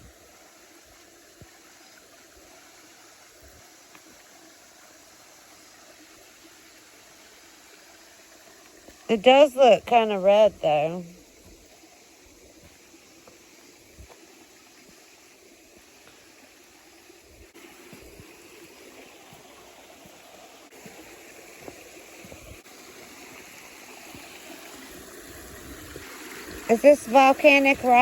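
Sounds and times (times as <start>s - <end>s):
creek water trickling: 0.0s - 28.0s.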